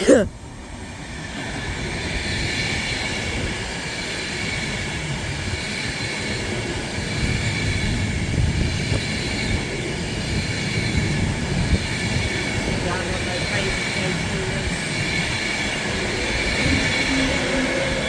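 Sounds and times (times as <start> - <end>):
high whine of train: 0.0 - 18.0
train wheels rumbling on rails: 1.0 - 18.0.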